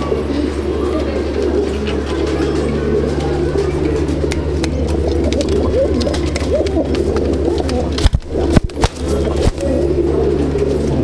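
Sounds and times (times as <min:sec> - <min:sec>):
pigeons cooing: 0:00.0 - 0:11.0
steady low hum: 0:00.0 - 0:11.0.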